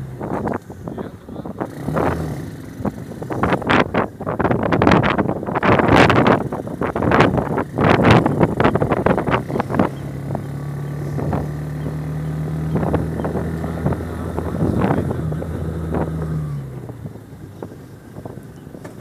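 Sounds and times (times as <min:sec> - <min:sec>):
wind on microphone: 0:00.0 - 0:19.0
moped engine running: 0:01.3 - 0:19.0.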